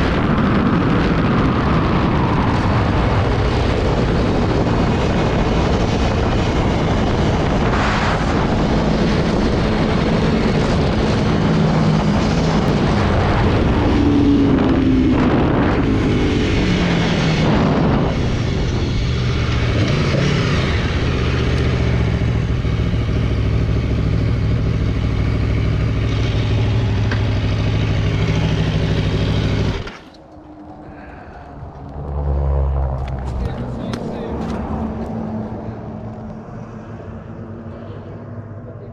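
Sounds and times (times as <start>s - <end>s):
motorcycle engine revving: 0.0s - 36.3s.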